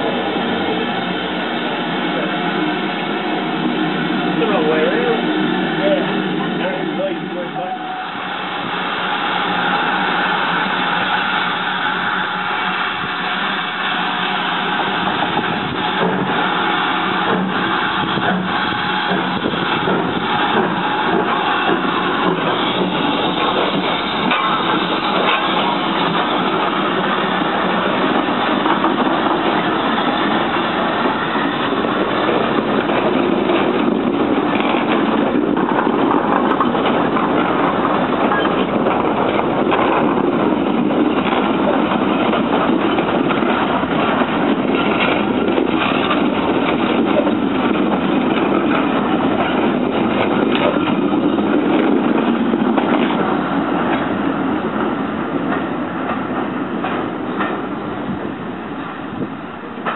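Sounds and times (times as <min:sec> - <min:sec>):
steam train passing on rails: 0:00.0 - 0:59.9.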